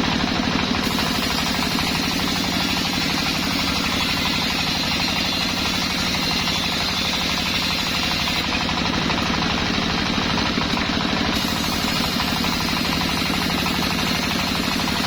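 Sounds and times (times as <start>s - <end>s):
sawmill machine running: 0.0s - 15.0s.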